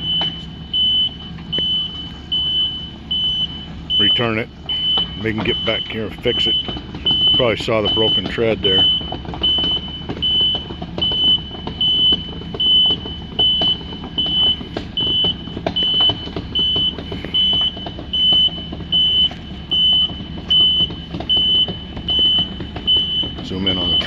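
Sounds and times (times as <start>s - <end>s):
diesel engine running: 0.0s - 24.0s
excavator tracks clanking: 0.0s - 24.0s
high travel alarm beeps: 0.0s - 24.0s.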